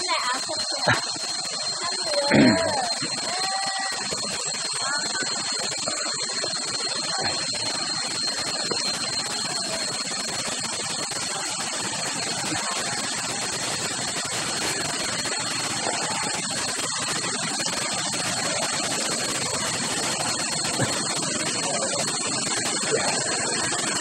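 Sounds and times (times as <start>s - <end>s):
thin high whine: 0.0s - 24.0s.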